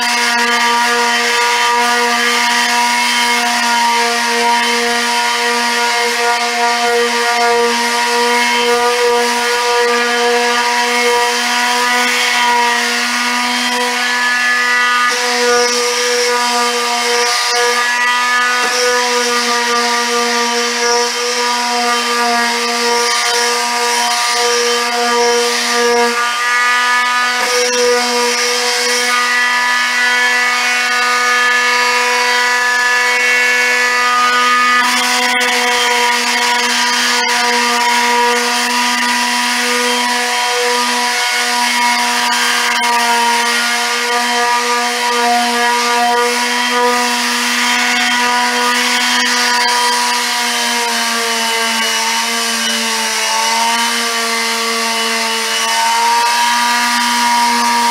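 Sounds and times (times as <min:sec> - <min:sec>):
orbital sander whining: 0:00.0 - 0:57.9
sanding pad rasping: 0:00.0 - 0:57.9.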